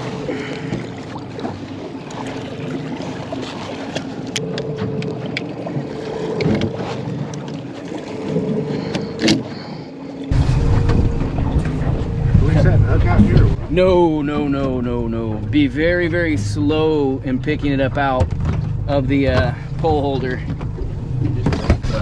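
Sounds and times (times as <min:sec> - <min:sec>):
outboard motor humming: 0:00.0 - 0:22.0
water along boat: 0:00.0 - 0:22.0
low rumble: 0:04.1 - 0:22.0.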